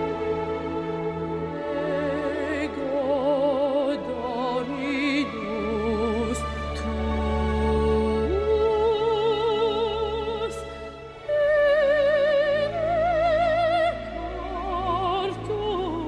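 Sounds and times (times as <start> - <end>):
operatic singing: 0.0 - 16.0.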